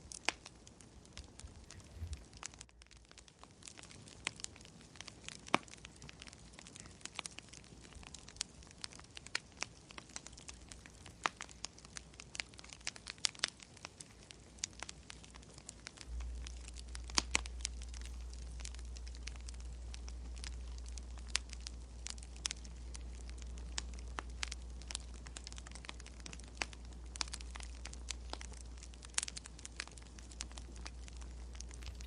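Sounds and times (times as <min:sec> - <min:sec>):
low steady hum: 0:00.0 - 0:32.0
wood fire crackling: 0:00.0 - 0:32.0.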